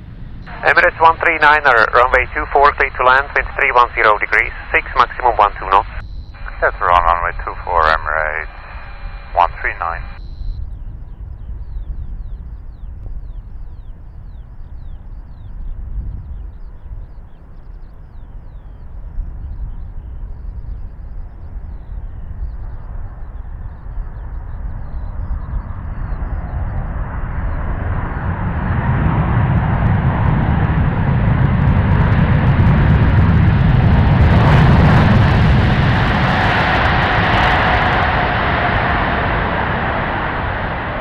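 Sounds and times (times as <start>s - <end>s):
jet engines: 0.0s - 41.0s.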